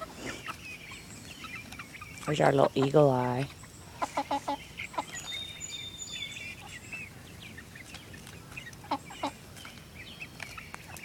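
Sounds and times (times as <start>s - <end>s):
chickens clucking: 0.0s - 11.0s
chickens trilling calls: 0.0s - 11.0s.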